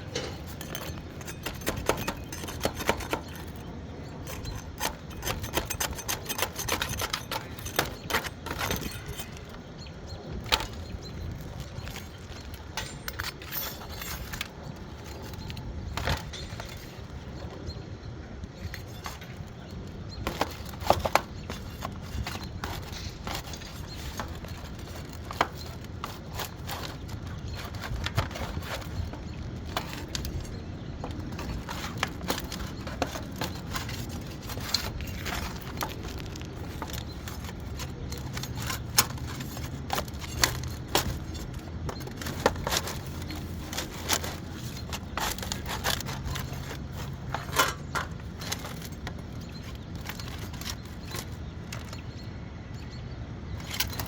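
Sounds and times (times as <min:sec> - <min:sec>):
knocks and scrapes on shingle roof: 0:00.0 - 0:52.2, 0:53.5 - 0:54.0.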